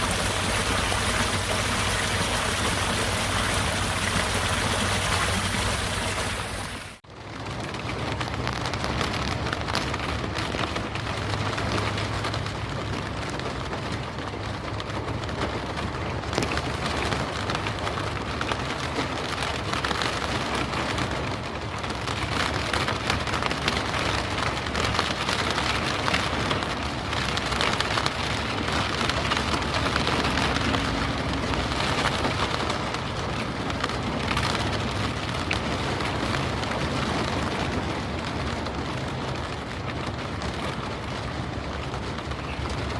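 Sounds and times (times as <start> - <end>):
rain falling on a surface: 0.0 - 42.9.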